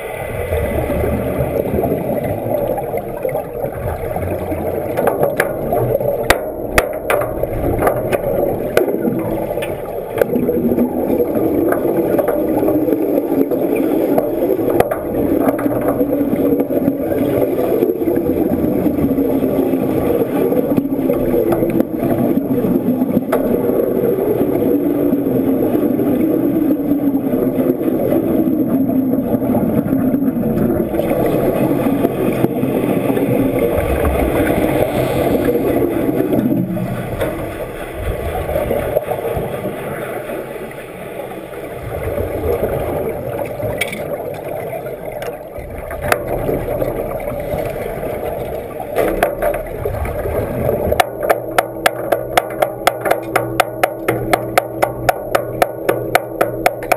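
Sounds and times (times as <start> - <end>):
underwater bubbling and rushing: 0.0 - 56.9.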